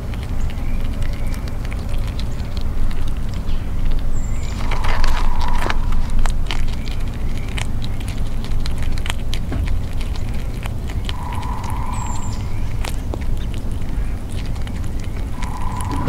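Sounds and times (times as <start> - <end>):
low rumble: 0.0 - 16.0
squirrel gnawing a peanut: 0.0 - 16.0
steady hum: 2.3 - 16.0.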